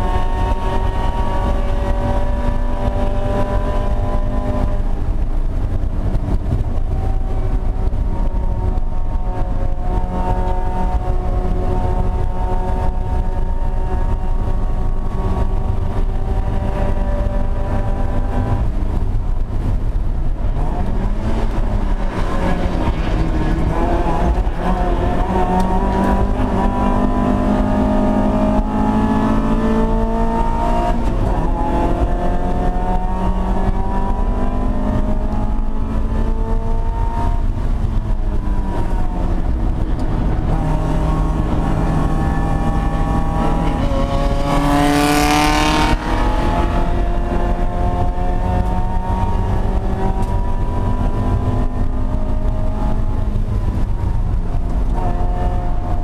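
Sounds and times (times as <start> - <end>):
low rumble of car: 0.0 - 56.0
race car engine revving: 0.0 - 56.0.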